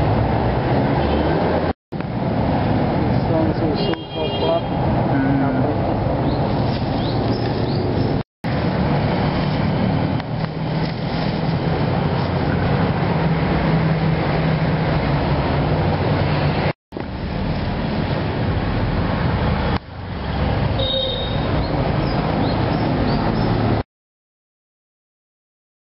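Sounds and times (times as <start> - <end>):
roadside traffic noise: 0.0 - 23.8.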